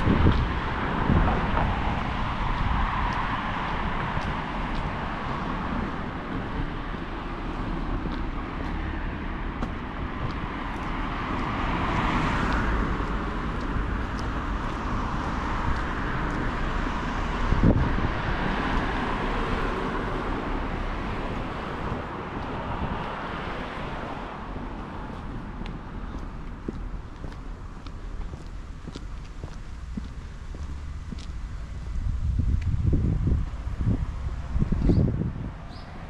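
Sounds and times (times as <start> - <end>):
city street traffic: 0.0 - 36.0
vehicle passing: 0.0 - 36.0.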